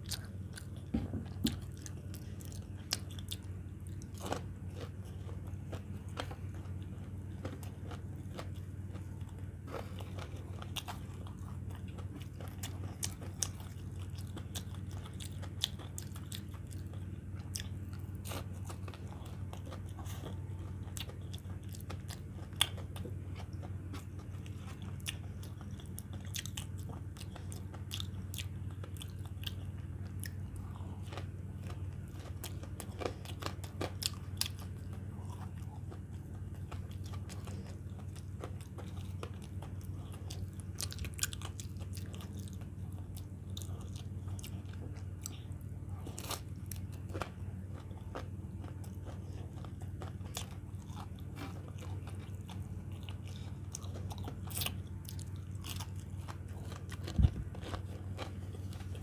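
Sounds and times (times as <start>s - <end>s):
crunchy chewing: 0.0s - 59.0s
steady low hum: 0.0s - 59.0s.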